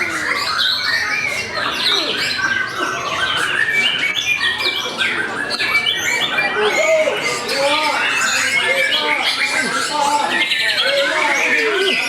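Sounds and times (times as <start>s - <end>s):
songbirds whistling and chirping: 0.0s - 12.0s.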